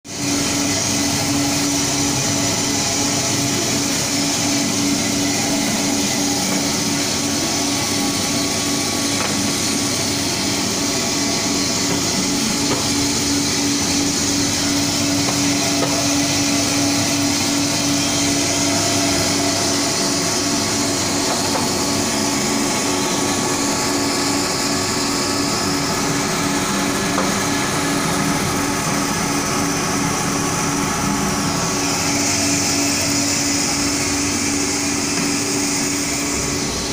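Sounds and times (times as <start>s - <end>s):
coffee beans churning: 0.1s - 36.9s
coffee roaster motor hum: 0.1s - 36.9s.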